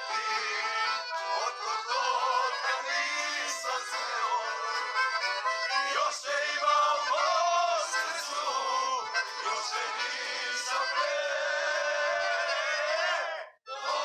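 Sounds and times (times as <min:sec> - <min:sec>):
accordion playing folk tune: 0:00.0 - 0:14.0
group of people singing: 0:00.2 - 0:14.0.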